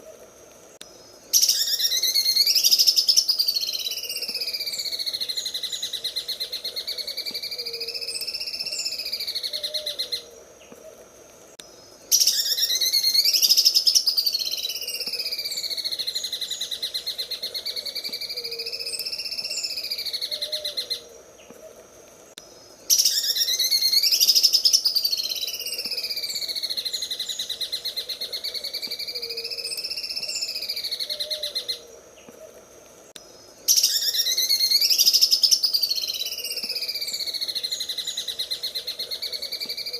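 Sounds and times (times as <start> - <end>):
bird singing rattling song: 0.8 - 10.8, 11.5 - 21.6, 22.4 - 32.4, 33.1 - 39.9.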